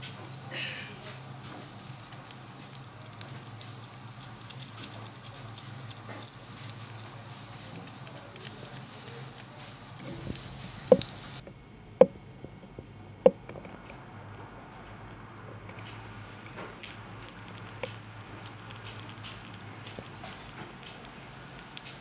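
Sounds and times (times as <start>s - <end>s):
hedgehog smacking while eating: 0.0s - 11.4s, 15.6s - 22.0s.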